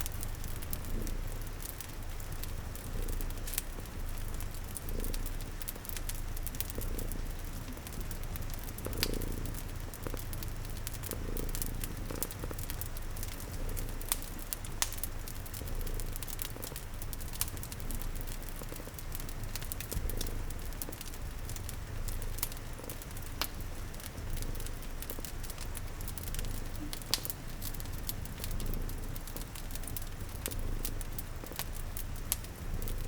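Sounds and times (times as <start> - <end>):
cat purring: 0.0 - 33.0
crackling fire with sharp pops: 0.0 - 33.0
soft rain: 0.0 - 33.0.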